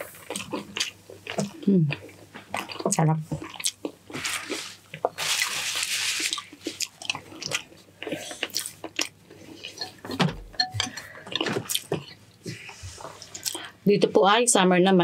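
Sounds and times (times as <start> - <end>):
wet chewing with lip smacks: 0.0 - 9.9, 10.8 - 13.7.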